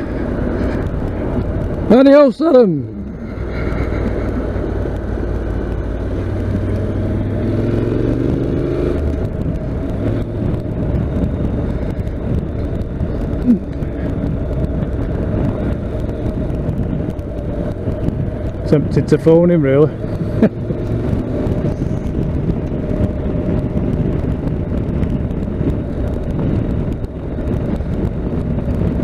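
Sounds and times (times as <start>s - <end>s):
road noise: 0.0s - 29.0s
motorcycle engine accelerating: 2.7s - 29.0s.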